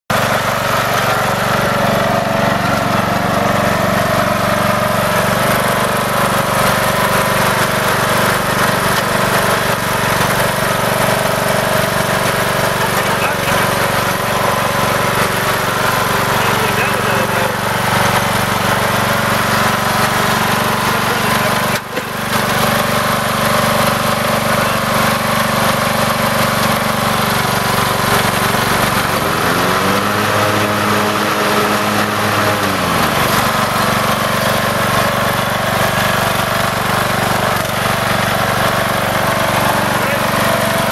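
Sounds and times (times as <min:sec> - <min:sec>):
riding lawn mower engine: 0:00.1 - 0:40.9.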